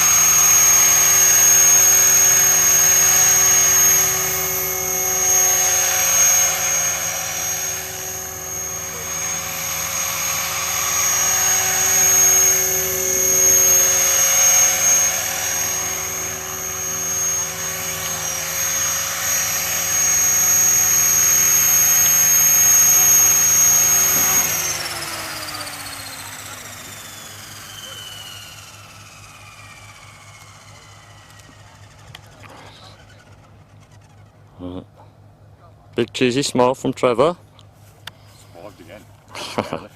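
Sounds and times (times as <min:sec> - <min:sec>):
model helicopter high whine: 0:00.0 - 0:39.9.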